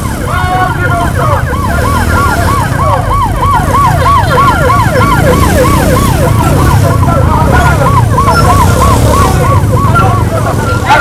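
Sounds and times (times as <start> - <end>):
electronic siren yelping: 0.0 - 11.0
traffic rumble: 0.0 - 11.0.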